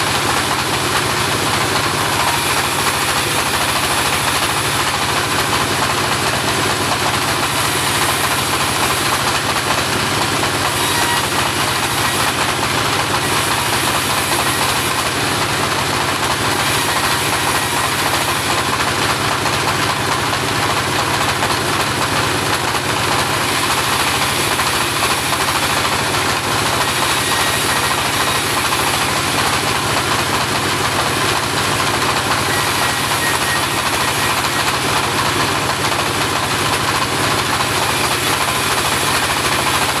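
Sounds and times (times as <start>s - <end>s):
engine-driven bandsaw mill running: 0.0s - 40.0s.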